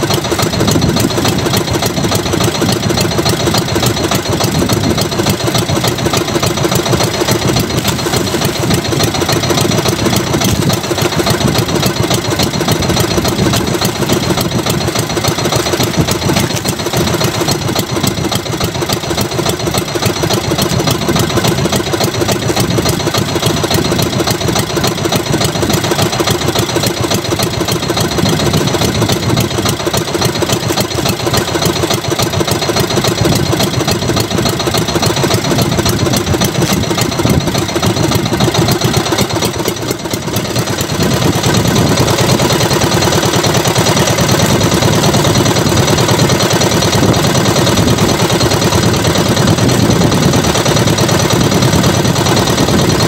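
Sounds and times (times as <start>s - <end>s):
boat engine idling: 0.0s - 53.0s.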